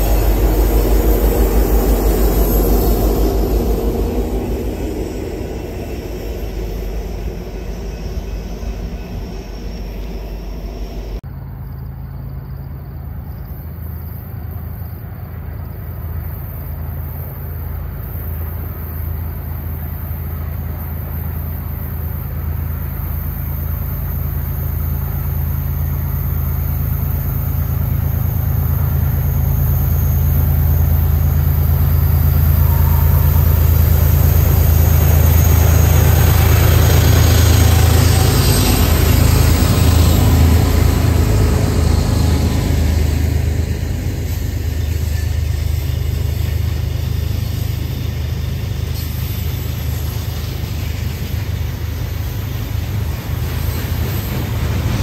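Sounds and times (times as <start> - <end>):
diesel locomotives running: 0.0 - 55.0
freight train passing: 0.0 - 55.0.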